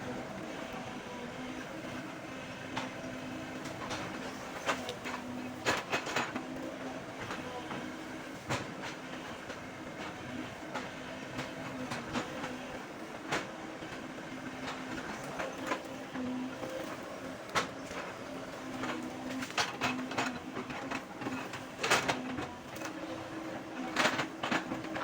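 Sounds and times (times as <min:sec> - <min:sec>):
excavator humming: 0:00.0 - 0:25.0.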